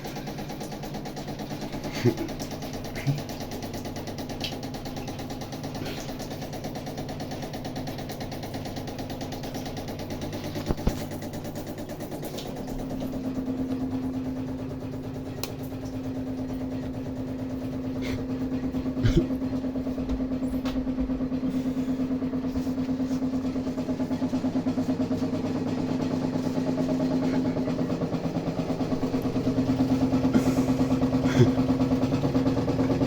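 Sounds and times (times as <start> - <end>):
water heater and pipes humming: 0.0 - 33.0.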